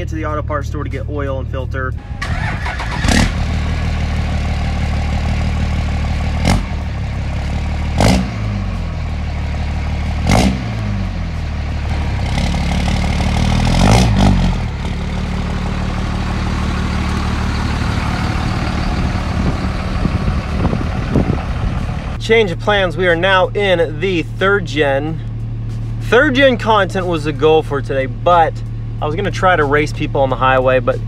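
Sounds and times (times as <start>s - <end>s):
diesel engine idling: 0.0s - 31.0s
engine throttle blips: 0.0s - 31.0s.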